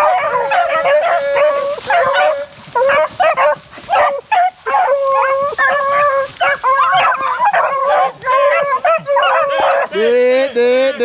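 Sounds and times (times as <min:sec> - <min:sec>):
hounds bawling and yelping: 0:00.0 - 0:10.4.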